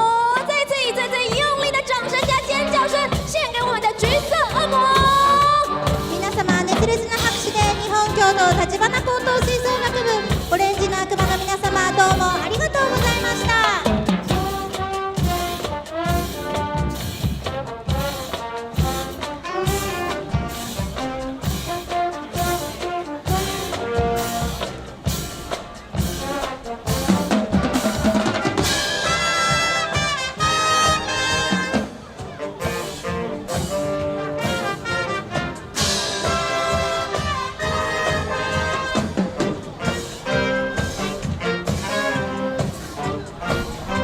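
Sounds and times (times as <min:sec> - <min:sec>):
wind band playing lively tune: 0:00.0 - 0:44.0
drum beat: 0:01.3 - 0:44.0.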